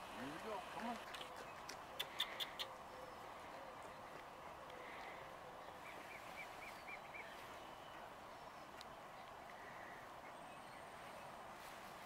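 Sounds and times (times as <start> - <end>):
distant bird chirping: 0.2 - 11.4.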